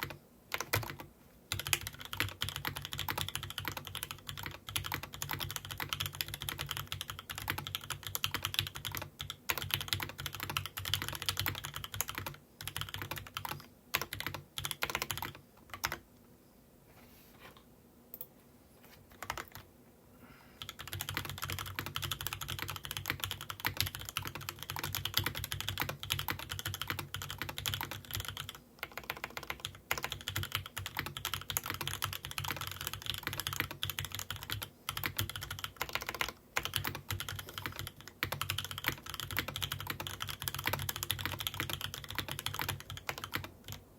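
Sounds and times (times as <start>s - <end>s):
mechanical keyboard typing: 0.0s - 16.0s, 19.1s - 19.6s, 20.6s - 43.8s.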